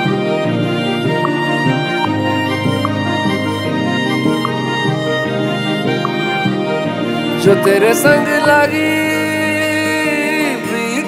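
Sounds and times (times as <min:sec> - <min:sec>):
romantic song instrumental music: 0:00.0 - 0:11.0.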